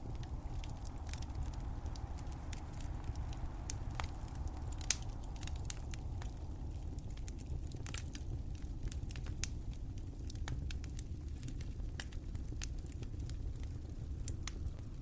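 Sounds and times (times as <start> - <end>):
low rumble of flames: 0.0 - 15.0
wood fire popping and snapping: 0.0 - 15.0.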